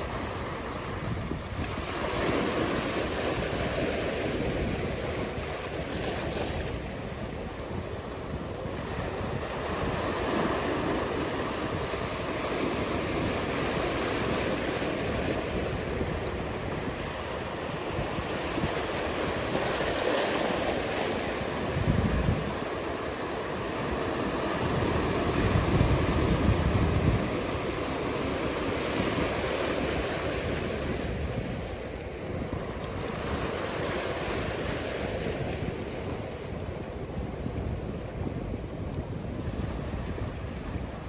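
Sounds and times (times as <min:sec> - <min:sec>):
ocean waves breaking: 0:00.0 - 0:41.0
wind rumbling on microphone: 0:00.0 - 0:41.0.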